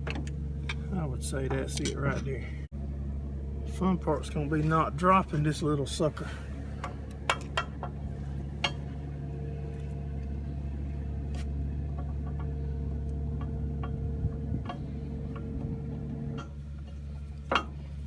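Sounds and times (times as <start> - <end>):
backhoe engine idling: 0.0 - 18.0.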